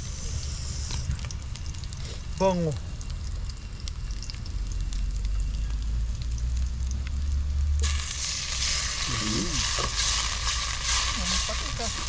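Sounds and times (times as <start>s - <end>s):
food sizzling in hot pan: 0.0s - 12.0s.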